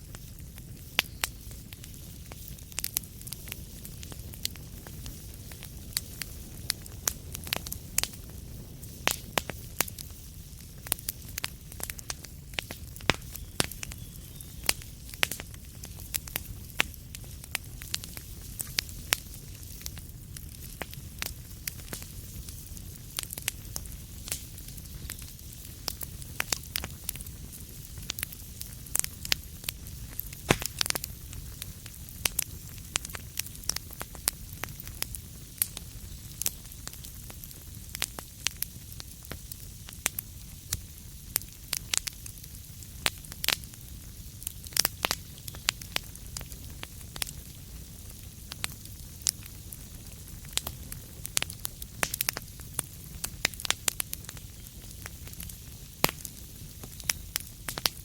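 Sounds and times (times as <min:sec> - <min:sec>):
fire pops and snaps: 0:00.0 - 0:58.0
low rumble of burning fire: 0:00.0 - 0:58.0.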